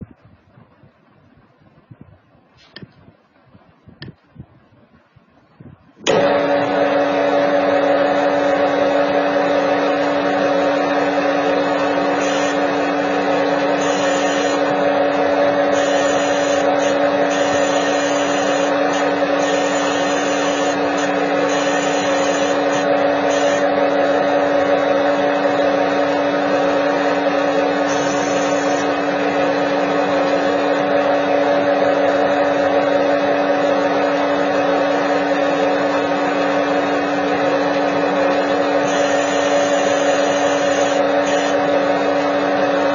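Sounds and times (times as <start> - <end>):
lathe machine drone: 6.0 - 42.9.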